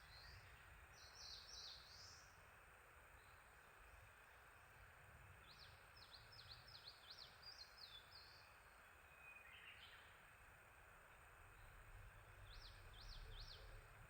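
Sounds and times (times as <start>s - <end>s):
songbird singing: 0.0s - 4.5s, 5.3s - 14.0s
steady background hiss: 0.0s - 14.0s.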